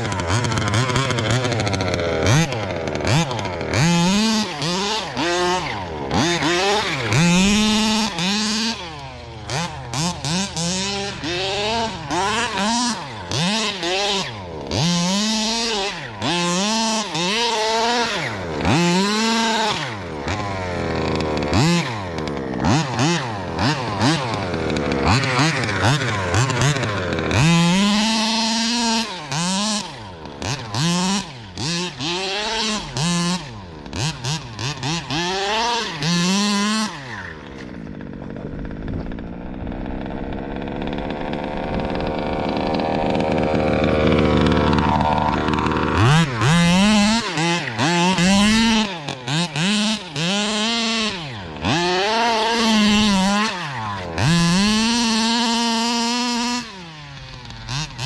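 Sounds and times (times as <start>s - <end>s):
two-stroke engine revving: 0.0s - 58.0s.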